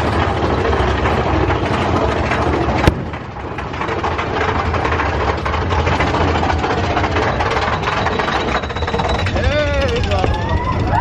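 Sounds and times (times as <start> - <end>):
roller coaster rumbling and rattling: 0.0 - 11.0.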